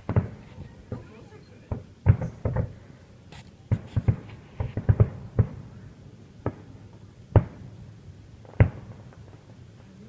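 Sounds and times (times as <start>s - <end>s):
fireworks shells booming: 0.0s - 9.6s.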